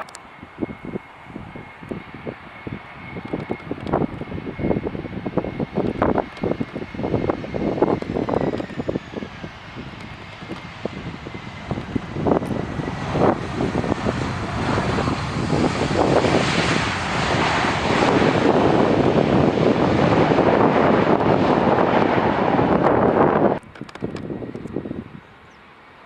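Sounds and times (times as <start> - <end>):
wind gusting on microphone: 0.0 - 25.5
jet engines roaring: 0.0 - 26.0.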